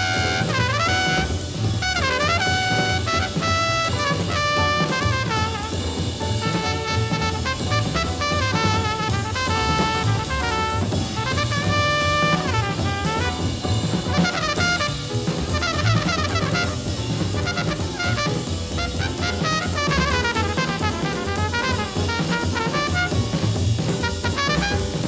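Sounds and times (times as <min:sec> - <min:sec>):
busy drum kit playing: 0:00.0 - 0:25.0
horn solo: 0:00.0 - 0:25.0.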